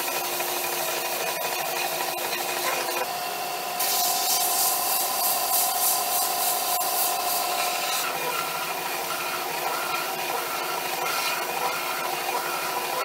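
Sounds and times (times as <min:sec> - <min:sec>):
wood being sanded: 0:00.0 - 0:03.1, 0:03.8 - 0:13.0
belt sander motor whine: 0:00.0 - 0:13.0.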